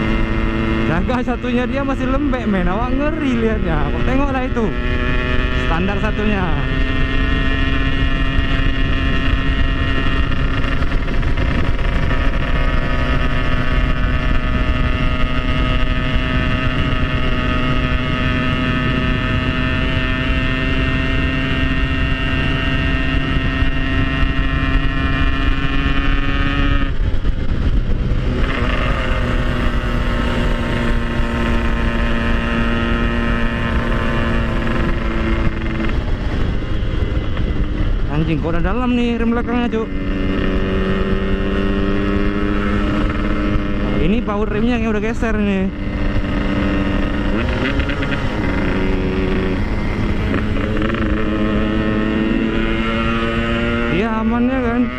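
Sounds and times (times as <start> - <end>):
motorcycle engine running: 0.0 - 54.9
wind rumble on microphone: 0.0 - 54.9.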